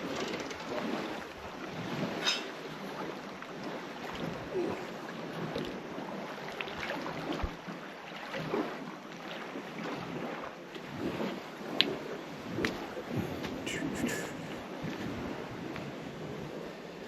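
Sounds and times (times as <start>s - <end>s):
water: 0.0s - 17.0s.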